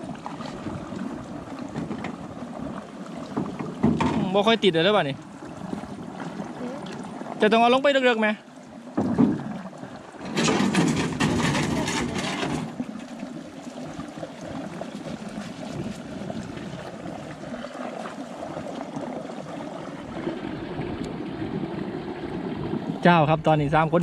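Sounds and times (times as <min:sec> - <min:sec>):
water splashing and pouring: 0:00.0 - 0:24.0
water trickling: 0:00.0 - 0:24.0.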